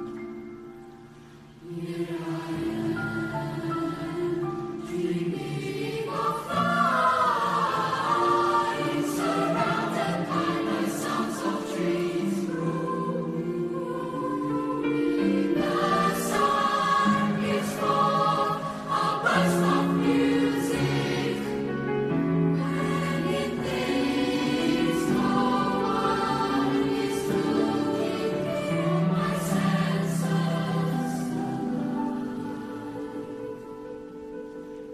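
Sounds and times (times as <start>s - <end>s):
youth choir singing chords: 1.0s - 34.8s.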